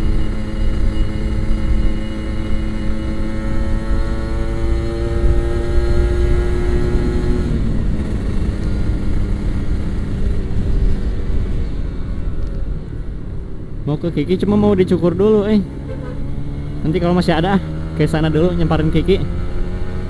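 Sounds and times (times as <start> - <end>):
motorcycle engine revving: 0.0 - 11.4, 14.7 - 20.0.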